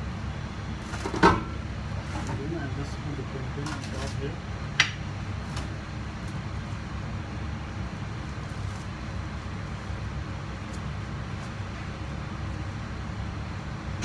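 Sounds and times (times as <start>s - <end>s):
ventilation rumble: 0.0s - 14.0s.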